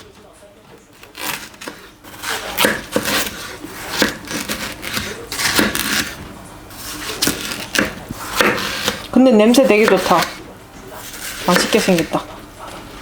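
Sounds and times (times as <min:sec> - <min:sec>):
knife cutting watermelon: 0:00.9 - 0:12.3.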